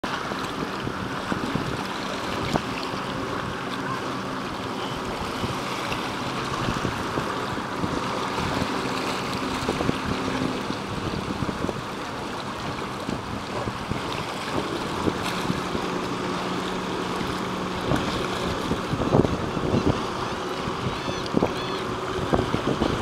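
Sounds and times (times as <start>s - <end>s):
distant motorboat engine droning: 0.0s - 23.0s
river water lapping at shore: 0.0s - 23.0s
steady wind: 0.0s - 23.0s.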